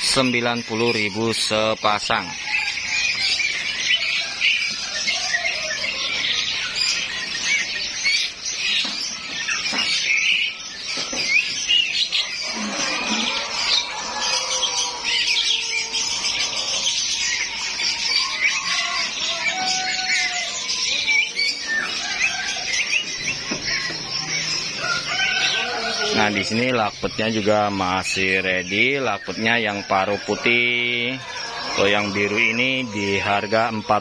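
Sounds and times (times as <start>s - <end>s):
caged birds chirping and squawking: 0.0s - 34.0s.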